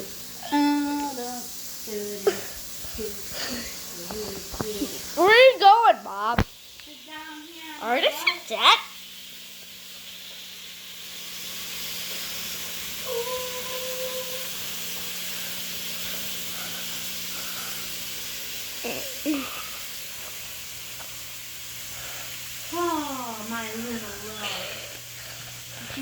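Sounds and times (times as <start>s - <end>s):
food sizzling in a frying pan: 0.0s - 26.0s.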